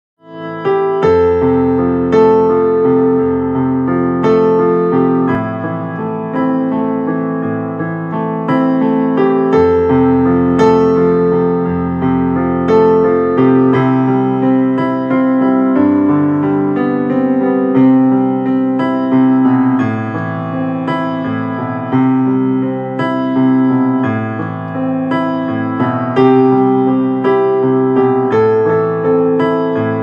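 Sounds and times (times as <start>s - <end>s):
piano-like ringtone melody: 0.2s - 30.0s.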